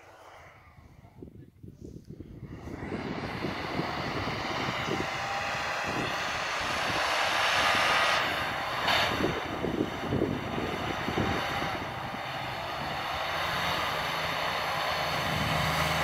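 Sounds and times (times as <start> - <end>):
suv engine revving hard: 2.6 - 16.0.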